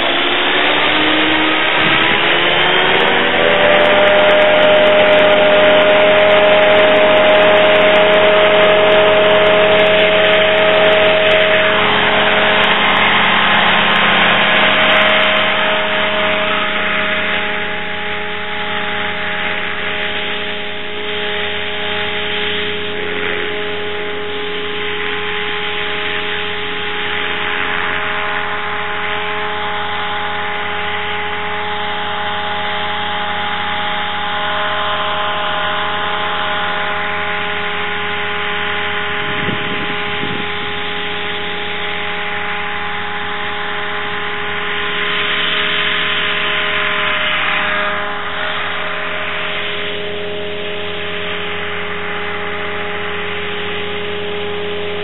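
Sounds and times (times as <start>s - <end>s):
engine humming steadily: 0.0s - 55.0s.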